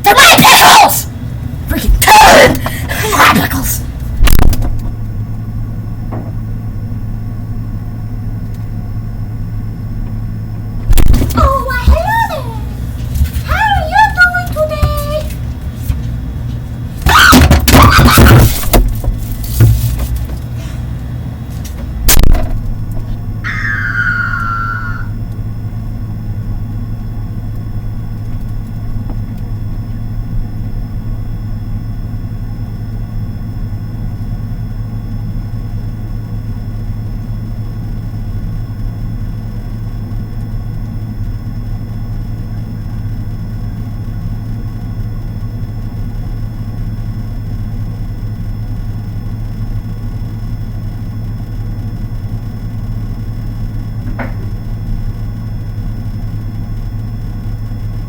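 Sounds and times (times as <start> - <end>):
refrigerator humming: 0.0 - 58.0.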